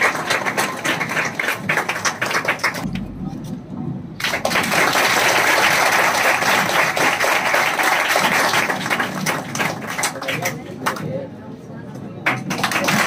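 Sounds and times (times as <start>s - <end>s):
children applauding: 0.0s - 2.8s, 4.2s - 11.1s, 12.2s - 13.0s.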